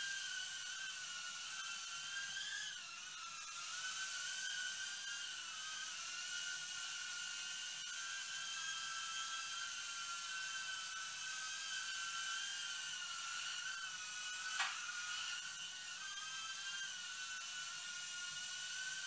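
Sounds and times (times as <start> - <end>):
quadcopter propellers whining: 0.0 - 19.0.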